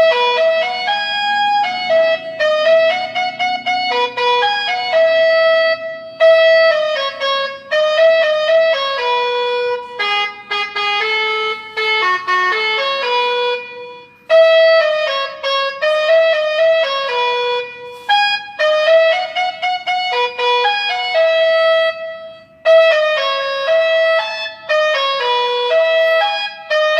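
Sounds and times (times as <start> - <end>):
electronic bus melody horn: 0.0 - 26.9.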